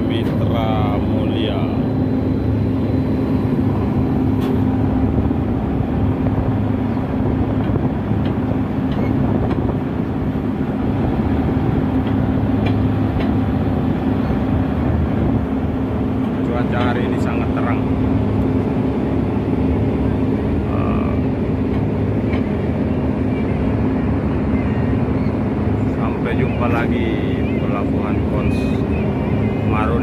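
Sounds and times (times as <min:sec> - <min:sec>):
ship engine humming: 0:00.0 - 0:30.0.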